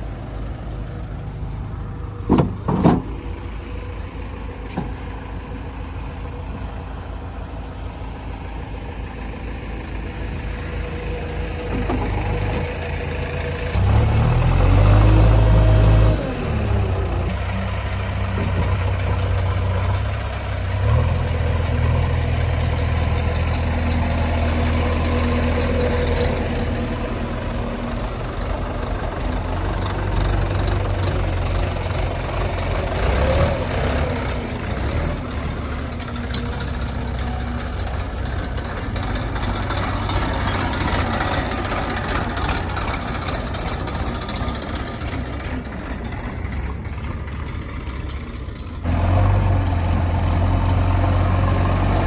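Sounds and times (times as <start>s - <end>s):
diesel engine droning: 0.0s - 52.0s.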